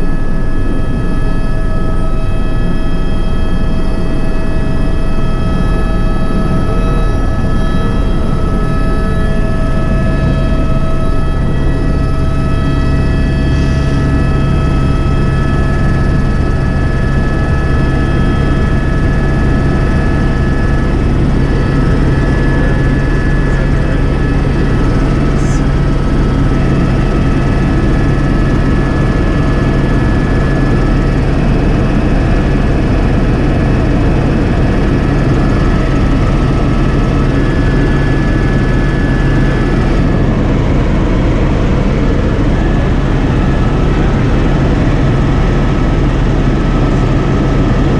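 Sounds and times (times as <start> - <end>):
helicopter rotor and engine noise: 0.0 - 47.9
turbine whine: 0.0 - 47.9.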